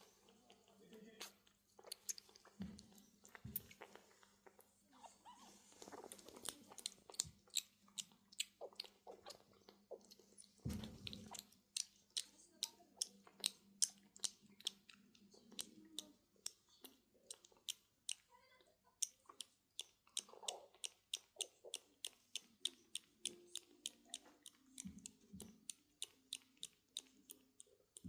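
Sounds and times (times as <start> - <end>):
kitten sucking milk: 0.0 - 28.0.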